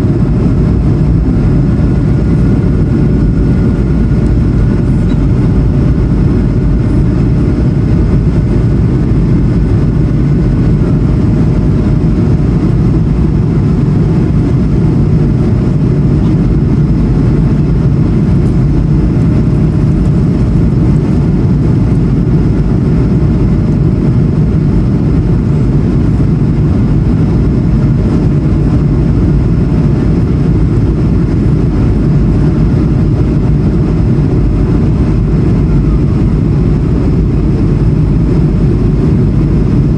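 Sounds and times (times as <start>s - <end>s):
faint steady whine: 0.0s - 39.9s
jet engine roar in cabin: 0.0s - 39.9s.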